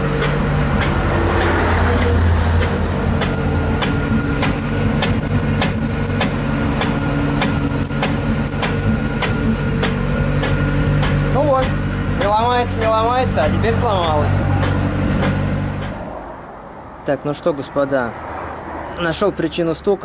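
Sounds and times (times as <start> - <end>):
rhythmic knocking from wheel: 0.0 - 16.0
car engine hum: 0.0 - 16.9.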